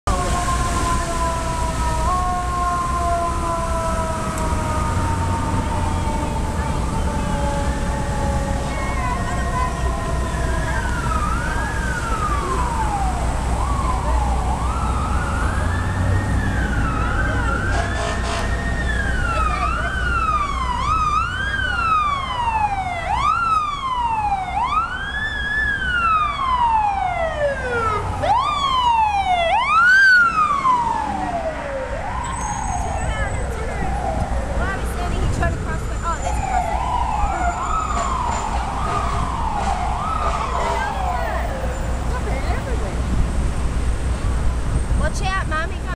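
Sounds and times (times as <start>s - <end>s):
fire truck sirens wailing: 0.0s - 45.9s
low traffic rumble: 0.0s - 45.9s.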